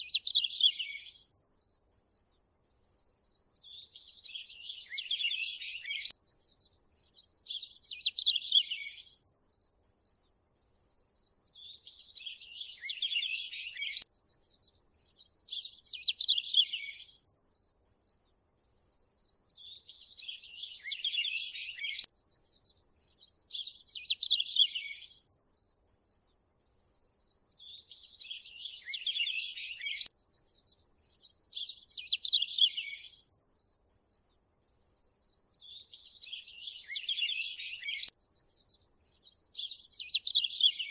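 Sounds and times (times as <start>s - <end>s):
high insect-like hiss: 0.0s - 40.9s.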